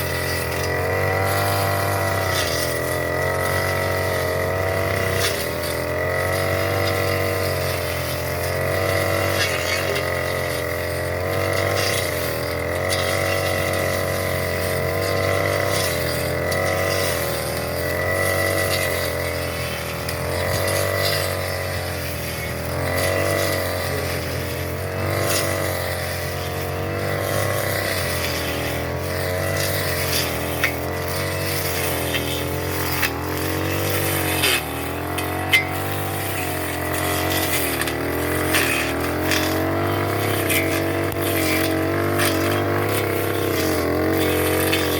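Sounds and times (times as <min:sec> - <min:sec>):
small petrol engine running: 0:00.0 - 0:44.9.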